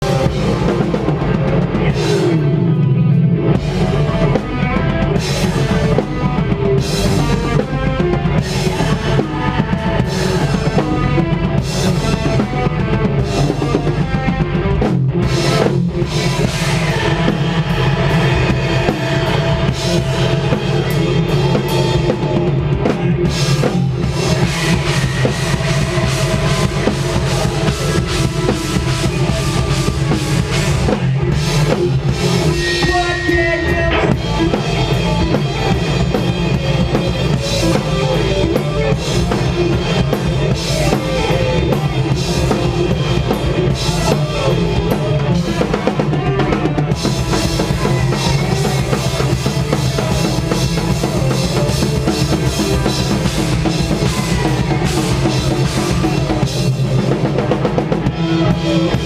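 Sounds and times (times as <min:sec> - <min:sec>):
post-hardcore band playing live: 0:00.0 - 0:59.0.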